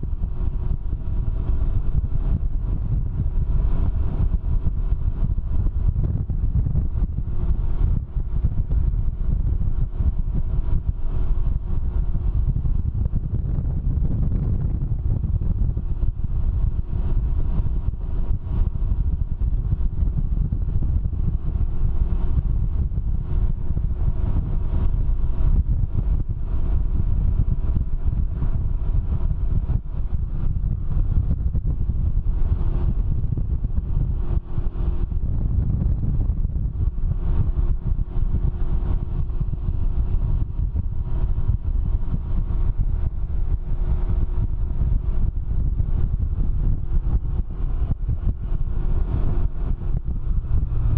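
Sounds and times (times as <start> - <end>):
motorcycle engine drone: 0.0 - 50.9
wind rumble on microphone: 0.0 - 50.9.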